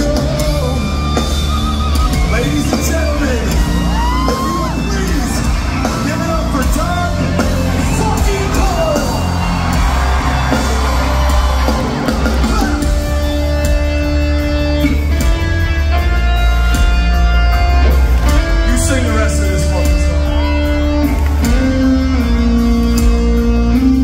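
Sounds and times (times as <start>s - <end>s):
live hard rock band: 0.0s - 24.0s.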